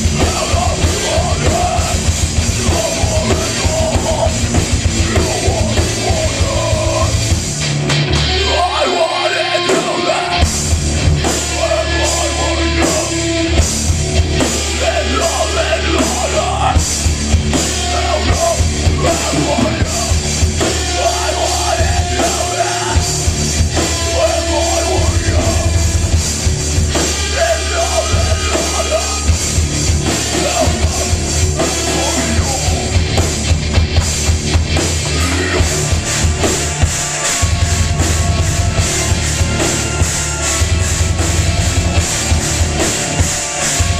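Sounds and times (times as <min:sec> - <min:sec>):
heavy rock band playing: 0:00.0 - 0:43.9.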